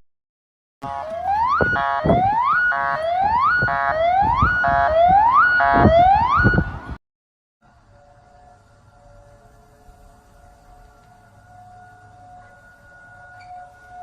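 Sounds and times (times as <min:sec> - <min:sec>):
rising siren whoop: 0:00.8 - 0:07.0, 0:07.7 - 0:14.0.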